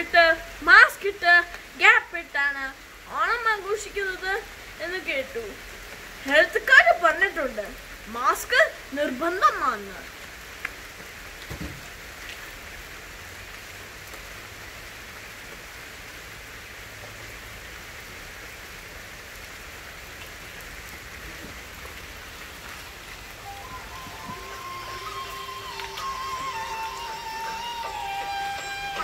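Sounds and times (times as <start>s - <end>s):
light rain falling: 0.0s - 29.0s.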